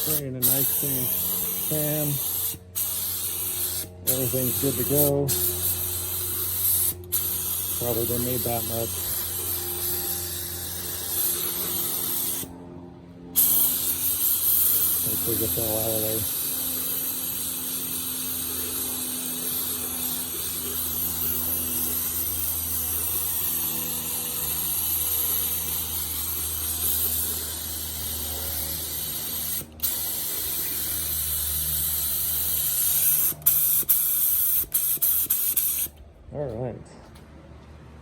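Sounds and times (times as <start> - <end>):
spray gun hissing: 0.0 - 12.5, 13.4 - 35.9.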